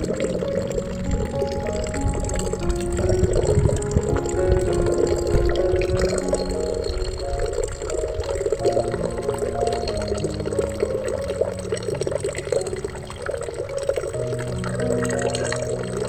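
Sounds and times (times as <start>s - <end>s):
soft ambient music: 0.0s - 16.0s
trickling water: 0.0s - 16.0s.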